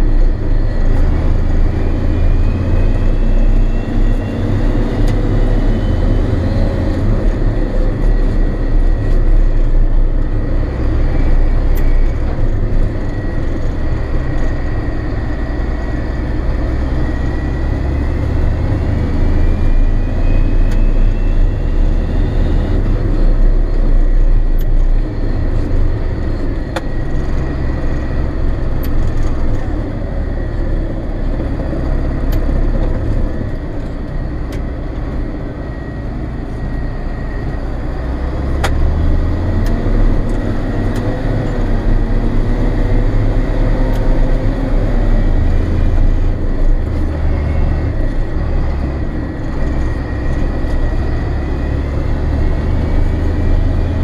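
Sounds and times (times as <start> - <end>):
steady high whine: 0.0 - 54.0
tractor engine running: 0.0 - 54.0.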